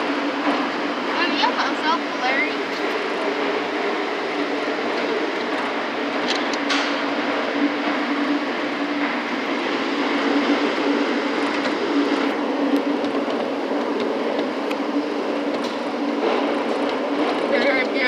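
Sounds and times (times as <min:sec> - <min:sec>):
tram mechanical running noise: 0:00.0 - 0:18.0.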